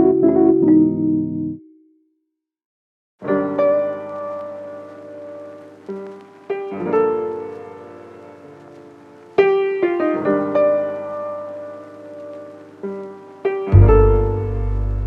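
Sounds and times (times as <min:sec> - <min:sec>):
slow piano music: 0:00.0 - 0:01.8, 0:03.2 - 0:15.0.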